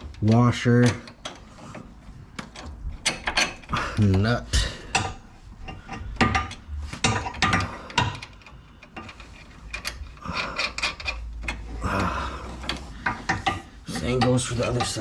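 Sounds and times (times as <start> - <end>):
metal hardware clinking and scraping: 0.0 - 15.0.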